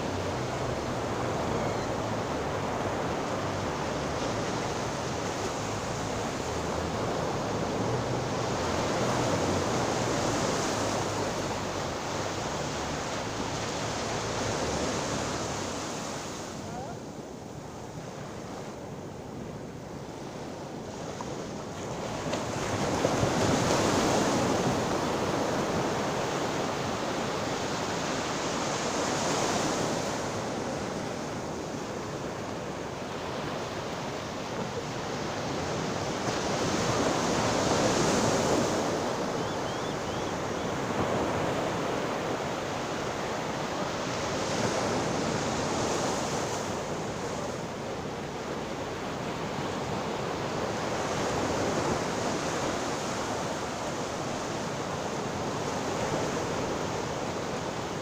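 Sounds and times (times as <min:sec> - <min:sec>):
sea waves washing in: 0:00.0 - 0:58.0.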